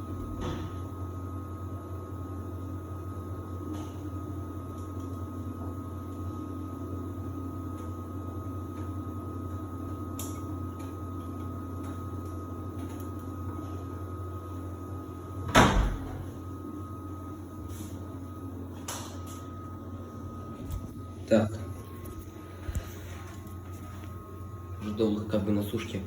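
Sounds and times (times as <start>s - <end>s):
washer-dryer humming with whine: 0.0s - 26.0s.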